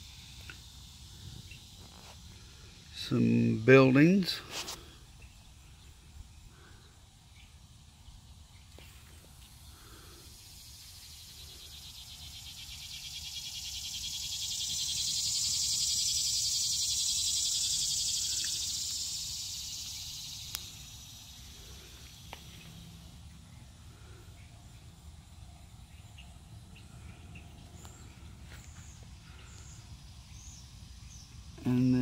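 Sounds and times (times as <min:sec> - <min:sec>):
cicada buzzing: 0:00.0 - 0:32.0.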